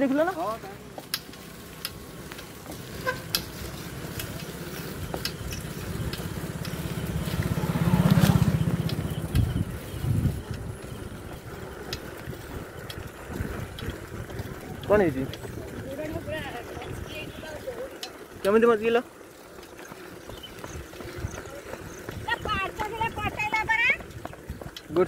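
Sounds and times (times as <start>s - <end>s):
motorcycle engine passing: 0.0s - 25.0s.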